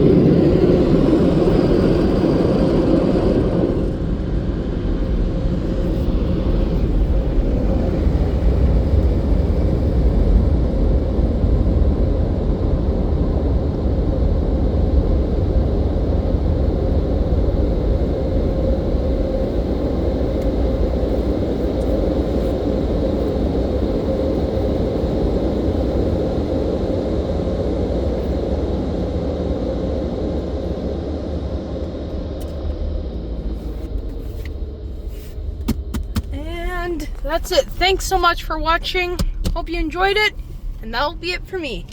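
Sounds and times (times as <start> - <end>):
dryer blowers rushing air: 0.0 - 41.9.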